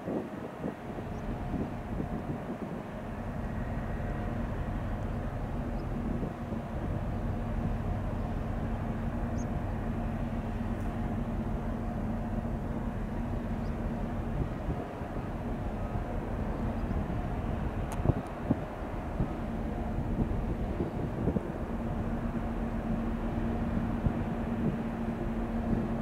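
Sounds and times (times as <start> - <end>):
constant hum tones: 0.0 - 26.0
ship machinery rumble and drone: 0.0 - 26.0.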